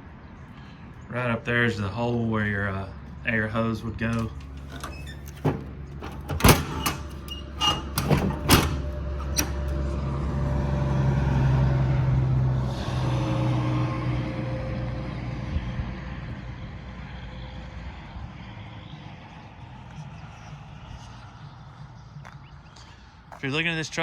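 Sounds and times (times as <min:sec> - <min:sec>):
vehicle engine hum: 0:00.0 - 0:23.6.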